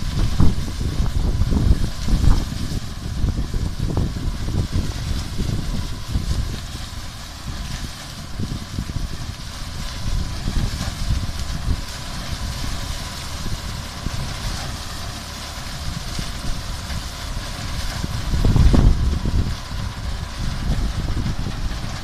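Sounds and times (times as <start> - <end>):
machine engine rumbling: 0.0 - 22.0.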